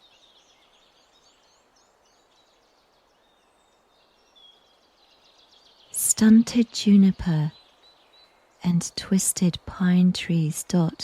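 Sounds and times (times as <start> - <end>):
faint bird chirps: 0.0 - 11.0
soft background hiss: 0.0 - 11.0.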